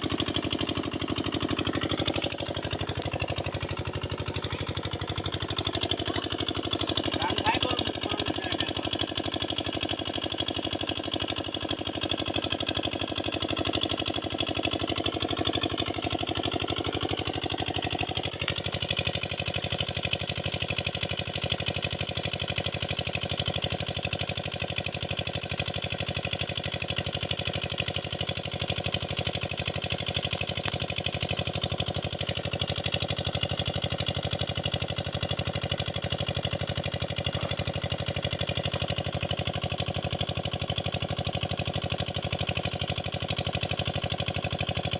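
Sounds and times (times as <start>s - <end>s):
small engine knocking: 0.0s - 44.9s.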